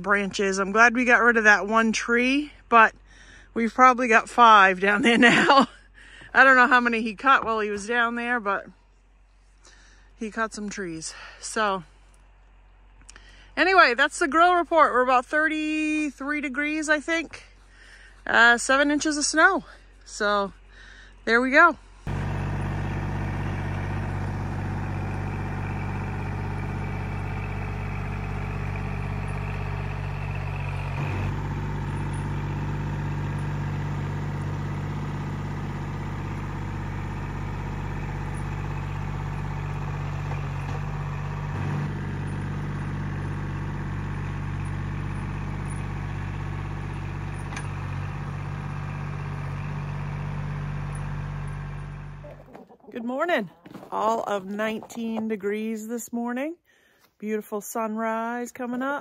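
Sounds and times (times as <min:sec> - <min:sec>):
tractor diesel engine running: 0:00.0 - 0:55.8.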